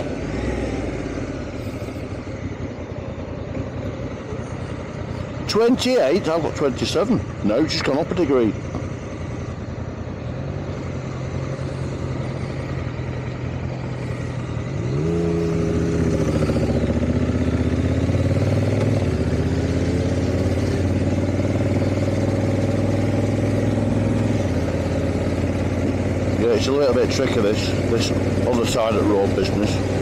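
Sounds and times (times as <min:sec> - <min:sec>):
motorcycle engine while riding: 0:00.0 - 0:30.0.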